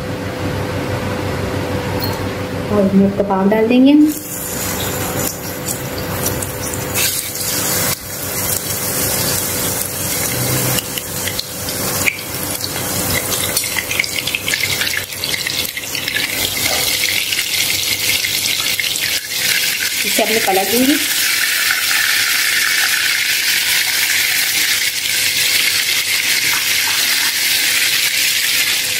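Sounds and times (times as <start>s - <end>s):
meat sizzling in hot oil: 4.1s - 28.9s.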